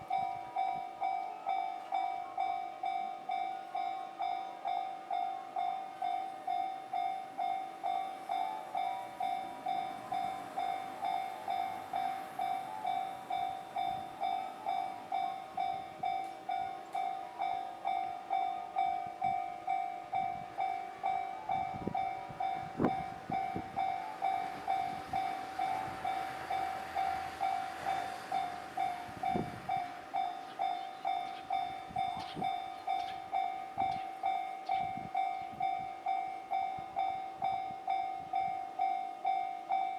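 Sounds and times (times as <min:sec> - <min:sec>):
level crossing warning bell ringing: 0:00.0 - 0:39.9
train rumbling over crossing: 0:00.0 - 0:39.9.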